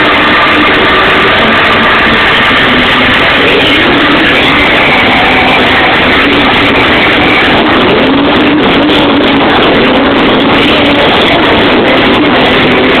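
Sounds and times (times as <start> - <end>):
distorted loud club music: 0.0 - 13.0.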